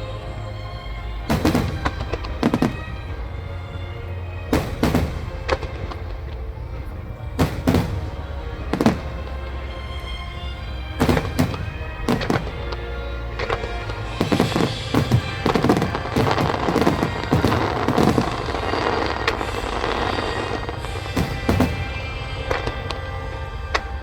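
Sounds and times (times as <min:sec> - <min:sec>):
fireworks crackling: 0:00.0 - 0:24.0
music: 0:00.0 - 0:24.0
fireworks booming: 0:01.2 - 0:24.0.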